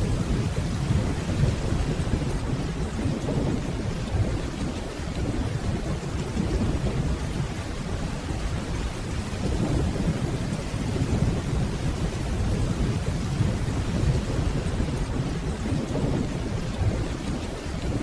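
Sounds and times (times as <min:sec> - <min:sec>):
distant rolling thunder: 0:00.0 - 0:18.0
steady rain: 0:00.0 - 0:18.0.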